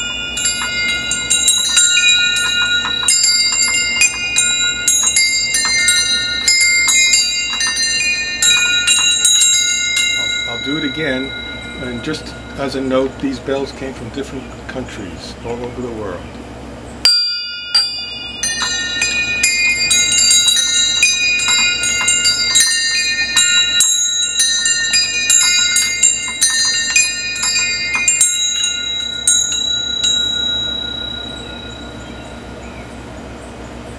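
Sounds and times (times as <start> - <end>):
small bells ringing: 0.0 - 14.5, 17.0 - 33.9.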